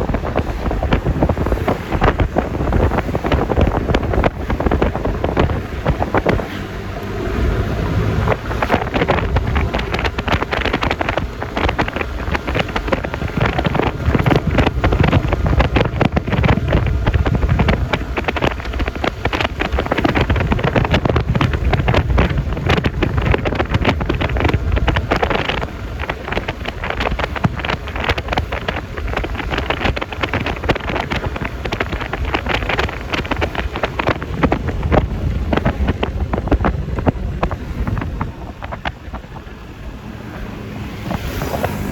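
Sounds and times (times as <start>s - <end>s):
scooter engine running: 0.0s - 41.9s
tyre and road noise: 0.0s - 41.9s
wind buffeting microphone: 0.0s - 41.9s.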